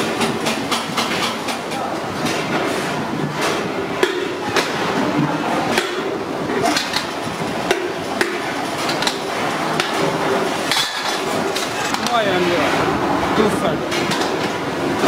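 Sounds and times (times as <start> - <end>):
workshop din: 0.0 - 15.0.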